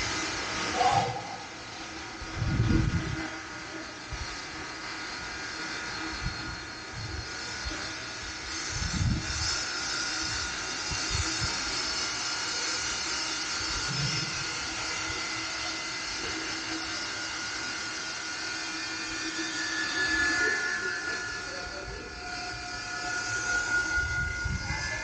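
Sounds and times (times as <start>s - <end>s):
machinery hum and hiss: 0.0s - 25.0s.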